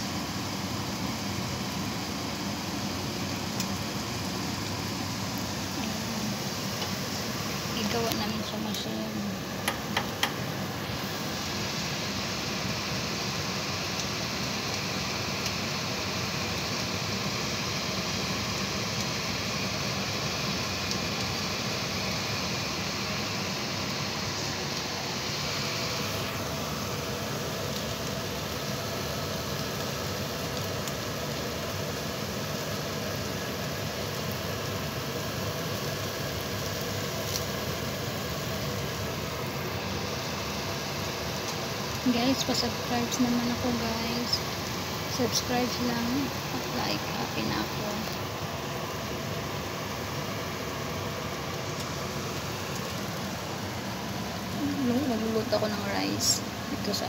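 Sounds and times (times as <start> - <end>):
motor-like hum: 0.0 - 57.0
skewers sizzling on grill: 0.0 - 57.0.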